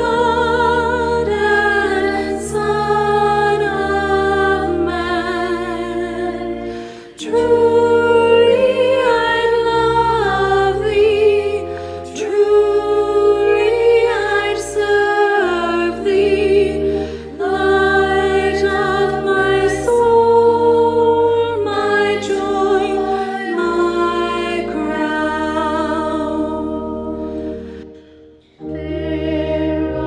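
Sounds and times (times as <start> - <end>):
choir singing a hymn: 0.0 - 30.0
sustained accompaniment chords: 0.0 - 30.0.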